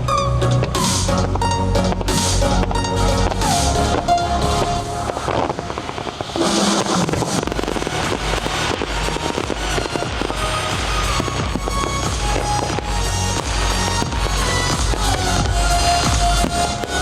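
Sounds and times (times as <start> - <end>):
fireworks bursting and crackling: 0.0 - 17.0
music soundtrack: 0.0 - 17.0.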